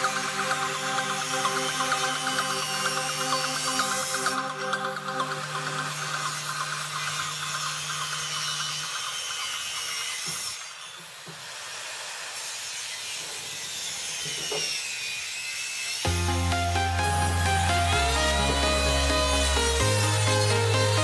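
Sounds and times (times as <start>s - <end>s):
circular saw cutting wood: 0.0s - 21.0s.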